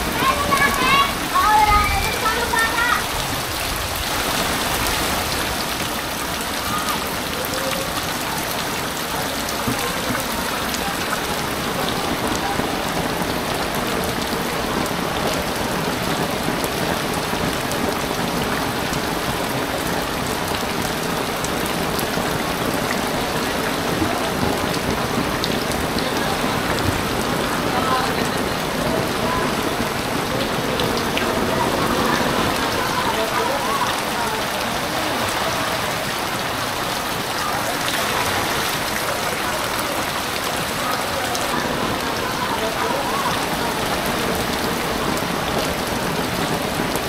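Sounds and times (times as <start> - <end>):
heavy rain on floodwater: 0.0 - 47.0.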